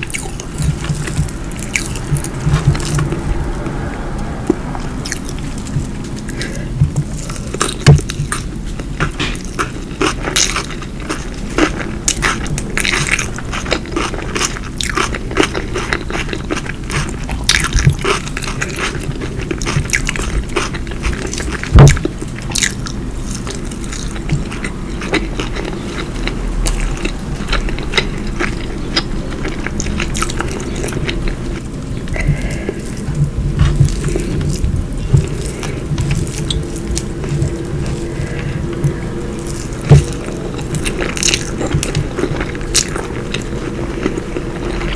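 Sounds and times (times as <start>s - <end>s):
chewing and biting food: 0.0s - 44.9s.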